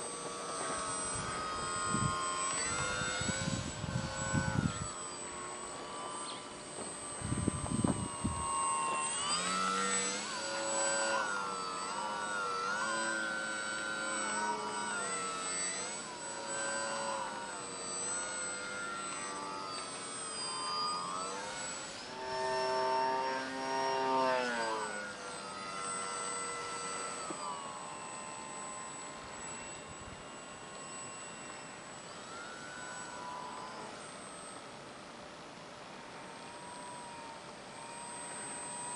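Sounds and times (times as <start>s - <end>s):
electric motor propeller buzzing whine: 0.0s - 38.9s.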